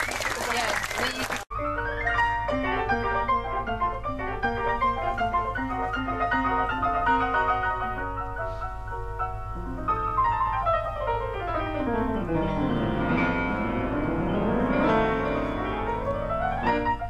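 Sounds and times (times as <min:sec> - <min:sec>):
solo piano playing: 0:01.5 - 0:17.0.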